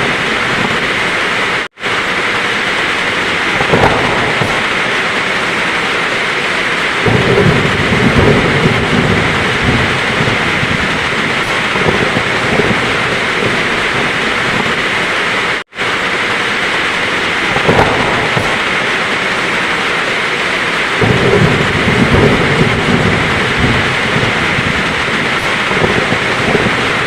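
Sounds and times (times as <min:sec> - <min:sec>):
heavy rain falling: 0:00.0 - 0:27.0
thunder rumble: 0:00.0 - 0:27.0.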